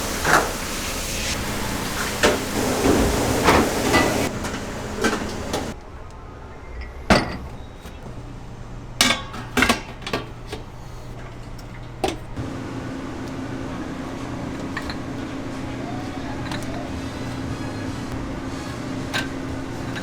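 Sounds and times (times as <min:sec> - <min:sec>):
higher mechanical hum: 0:00.0 - 0:05.9, 0:08.0 - 0:20.0
steady mechanical hum: 0:00.0 - 0:20.0.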